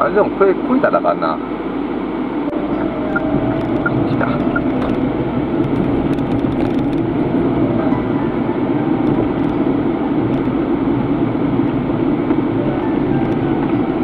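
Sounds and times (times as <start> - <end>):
car interior road and engine noise: 0.0 - 14.0.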